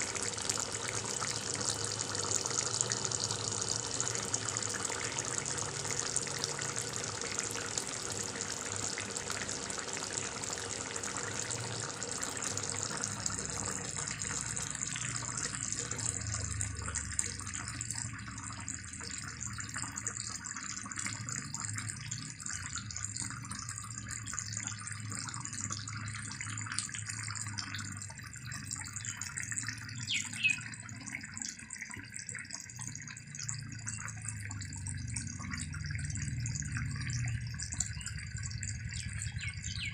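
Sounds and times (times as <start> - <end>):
curry bubbling in a wok: 0.0 - 39.9
low steady hum: 0.0 - 39.9.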